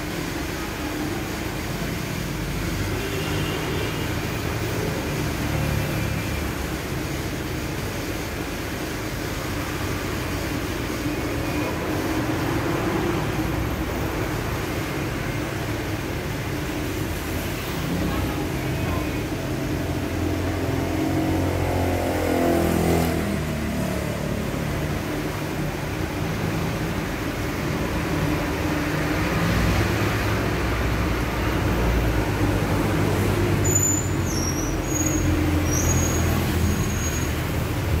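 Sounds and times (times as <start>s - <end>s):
washing machine motor hum: 0.0s - 36.6s.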